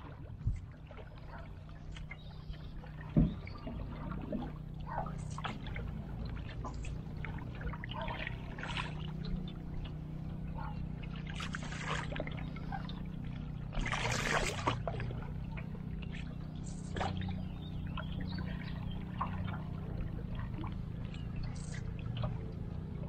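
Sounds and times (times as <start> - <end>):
paddle splashing in water: 0.0 - 23.0
steady low hum: 0.0 - 23.0.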